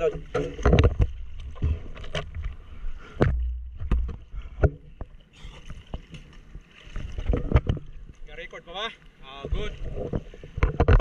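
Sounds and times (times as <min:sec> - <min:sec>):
sea water splashing: 0:00.0 - 0:11.0.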